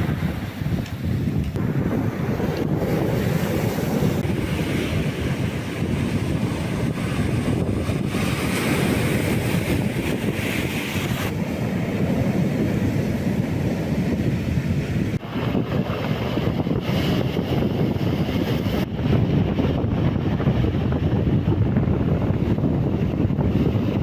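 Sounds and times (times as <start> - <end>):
sea surf breaking: 0.0 - 24.0
wind buffeting microphone: 0.0 - 24.0.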